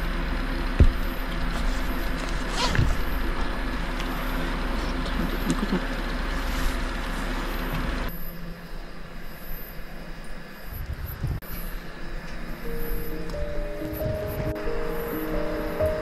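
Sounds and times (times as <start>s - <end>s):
electric fan whirring: 0.0s - 16.0s.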